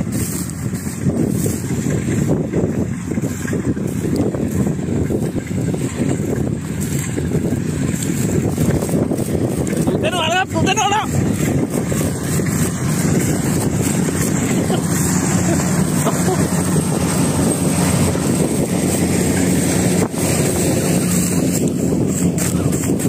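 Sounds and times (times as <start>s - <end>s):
diesel engine running: 0.0s - 23.0s
wind on microphone: 0.0s - 23.0s.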